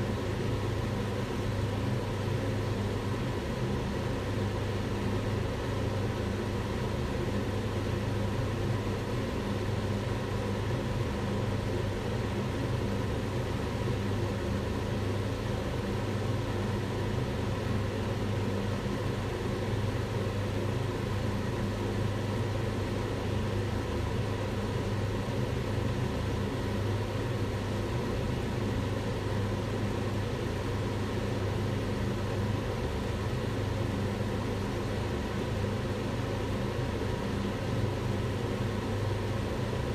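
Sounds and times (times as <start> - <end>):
extractor fan running: 0.0 - 39.9.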